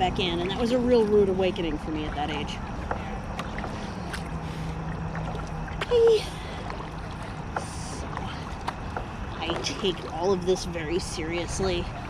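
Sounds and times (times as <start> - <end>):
paddle splashes and knocks: 0.0 - 12.0
water and wind noise: 0.0 - 12.0.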